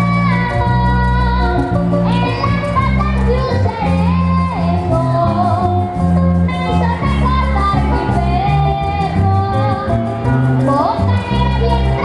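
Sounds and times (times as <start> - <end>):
boy singing through pa: 0.0 - 12.0
steady bass line: 0.0 - 12.0.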